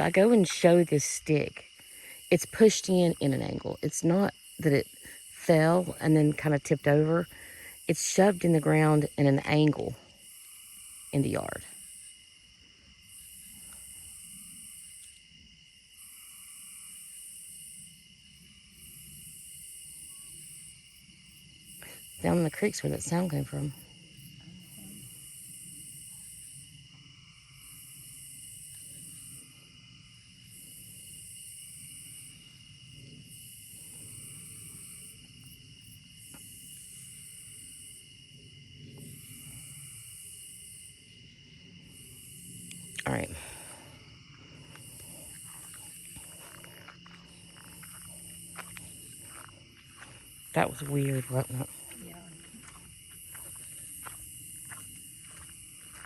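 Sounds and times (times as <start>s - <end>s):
insect trill: 0.0s - 56.0s.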